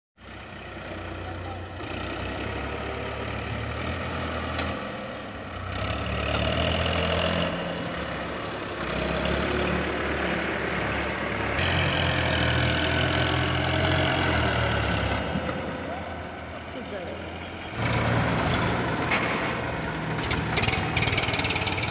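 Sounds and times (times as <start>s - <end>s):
heavy diesel engine running: 0.2s - 21.9s.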